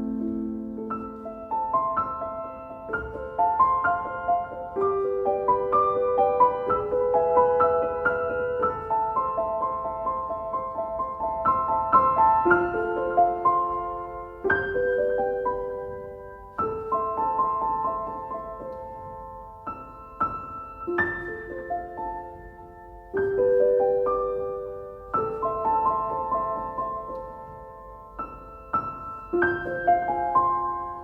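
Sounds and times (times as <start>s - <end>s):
soft slow piano music: 0.0s - 31.0s.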